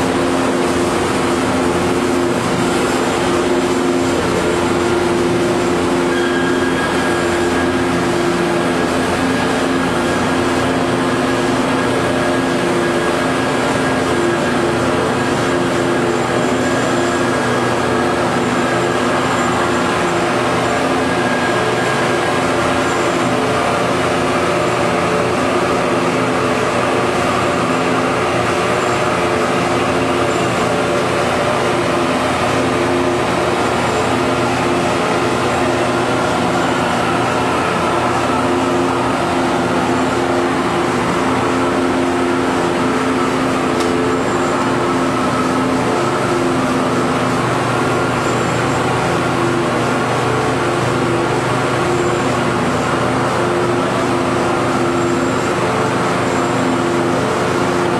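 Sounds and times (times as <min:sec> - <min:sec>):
steady high tone: 0:00.0 - 0:50.6.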